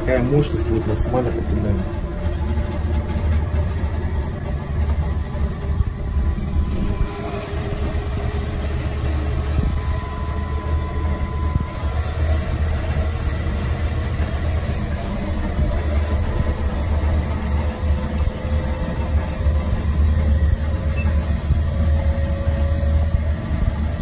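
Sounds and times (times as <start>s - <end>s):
electric motor humming: 0.0s - 24.0s
faint motor whine: 0.0s - 24.0s.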